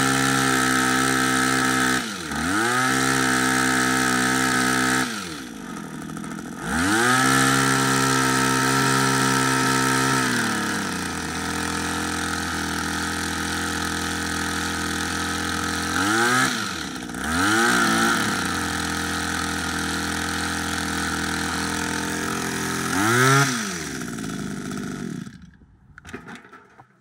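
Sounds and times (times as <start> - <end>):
hedge trimmer engine idling and revving: 0.0 - 26.6.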